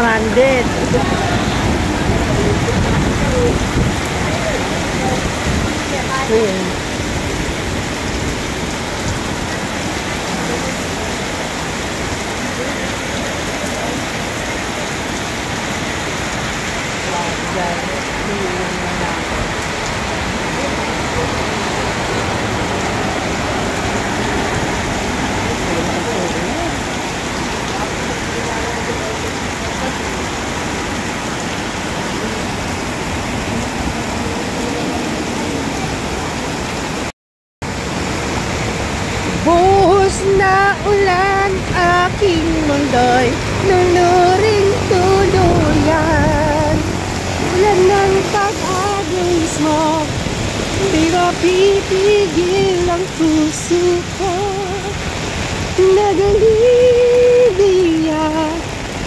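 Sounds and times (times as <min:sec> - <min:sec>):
heavy rain on road: 0:00.0 - 0:59.0.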